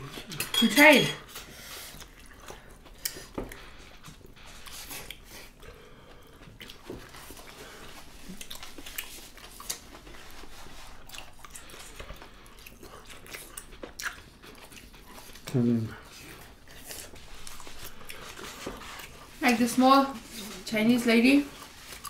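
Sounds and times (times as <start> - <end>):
people chewing food: 0.0 - 0.6, 1.2 - 22.0.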